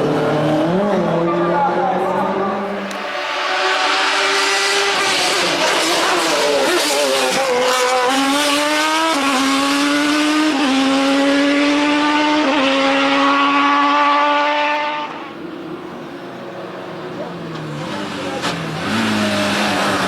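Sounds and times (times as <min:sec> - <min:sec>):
engine revving with gear changes: 0:00.0 - 0:15.4, 0:16.7 - 0:20.0.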